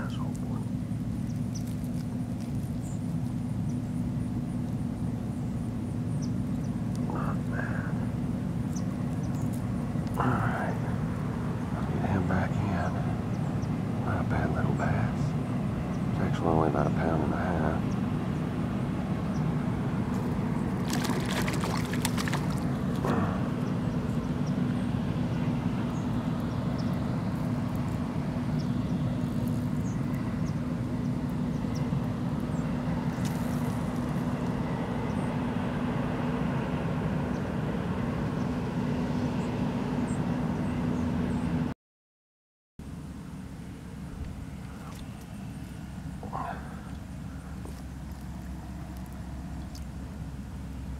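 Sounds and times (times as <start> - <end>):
low humming drone: 0.0 - 41.7, 42.8 - 50.9.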